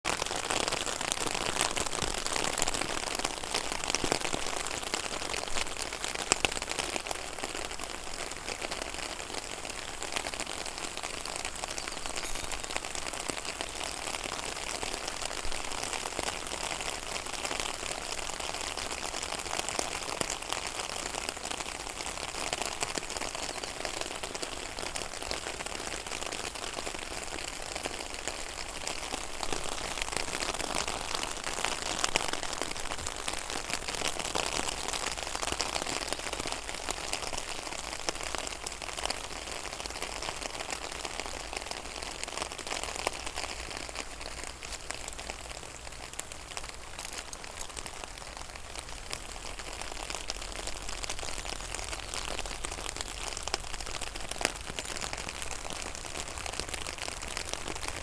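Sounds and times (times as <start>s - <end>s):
rain falling on a pond: 0.0s - 58.0s.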